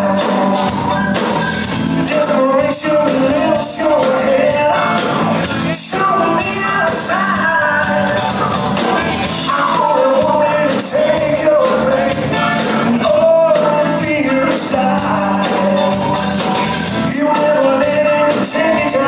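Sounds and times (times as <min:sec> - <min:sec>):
bending lead guitar line: 0:00.0 - 0:19.0
blues-rock band playing live: 0:00.0 - 0:19.0.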